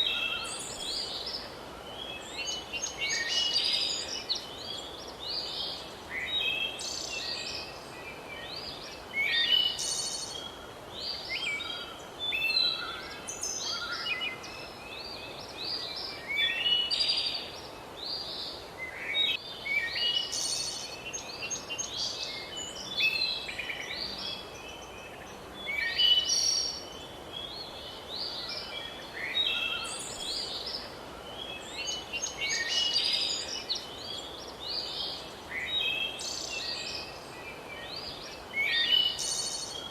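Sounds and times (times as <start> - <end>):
faint background hiss: 0.0 - 39.9
songbirds chirping: 0.0 - 39.9.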